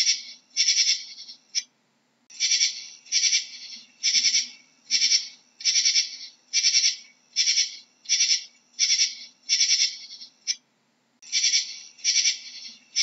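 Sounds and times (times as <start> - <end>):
katydid calling: 0.0 - 1.6, 2.3 - 10.6, 11.2 - 13.0.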